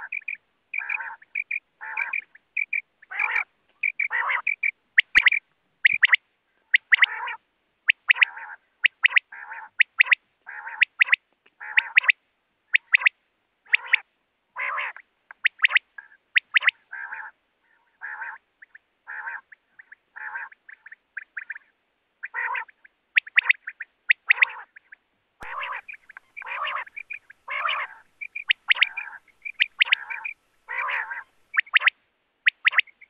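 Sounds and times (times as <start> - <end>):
quail calling: 0.0 - 33.0.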